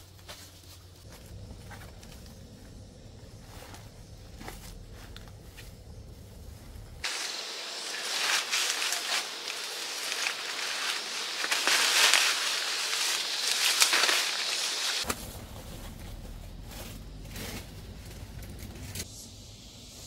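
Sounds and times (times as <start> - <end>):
dry plants rustling and crackling: 0.0 - 19.0
steady low rumble: 0.7 - 20.0.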